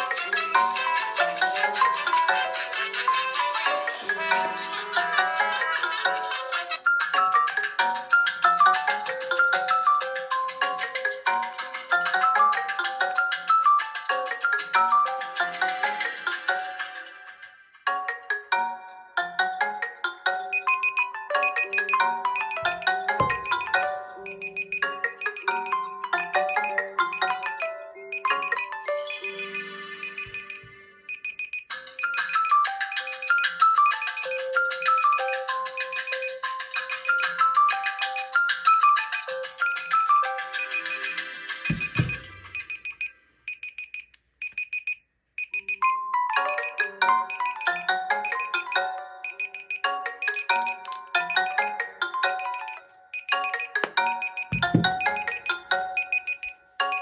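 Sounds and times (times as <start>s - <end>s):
smartphone ringtone melody: 0.0s - 43.1s, 45.6s - 57.0s.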